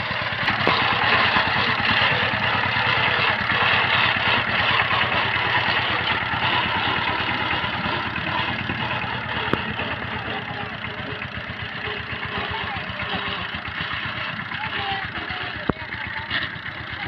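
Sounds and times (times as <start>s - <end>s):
diesel engine chugging: 0.0s - 17.0s.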